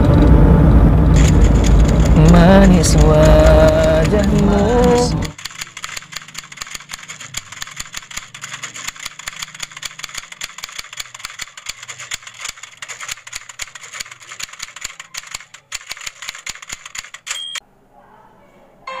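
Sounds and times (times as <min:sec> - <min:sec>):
typewriter keys clattering: 0:01.2 - 0:17.4.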